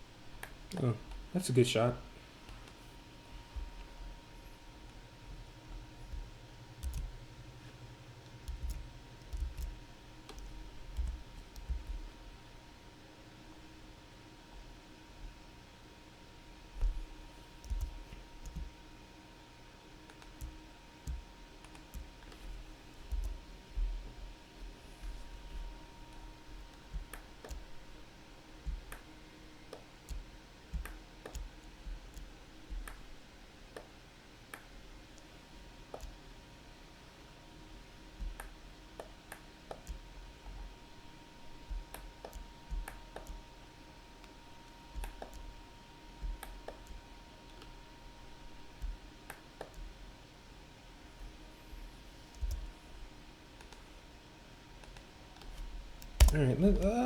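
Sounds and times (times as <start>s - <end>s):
faint background hiss: 0.0s - 57.0s
faint background hum: 0.0s - 57.0s.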